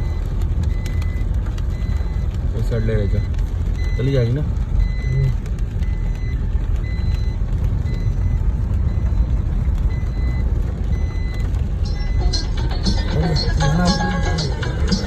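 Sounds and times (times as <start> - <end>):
deep steady rumble: 0.0 - 15.0
heavy rain: 0.0 - 15.0.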